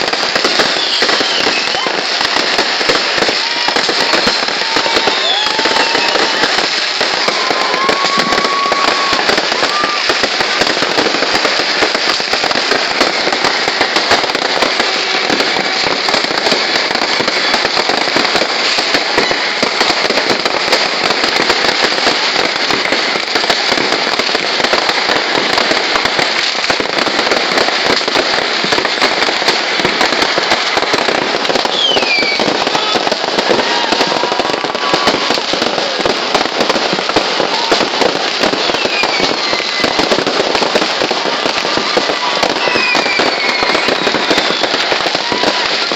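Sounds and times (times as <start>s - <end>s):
falling firework whistles: 0.0s - 45.9s
fireworks crackling and popping: 0.0s - 45.9s.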